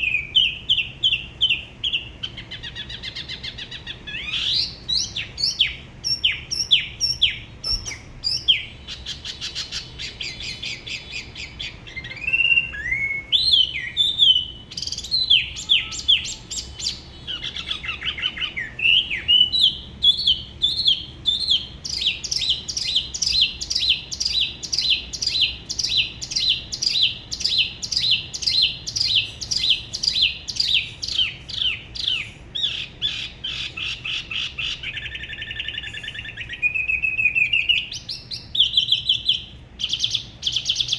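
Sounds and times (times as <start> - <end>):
babbler singing whistled phrases: 0.0 - 40.9.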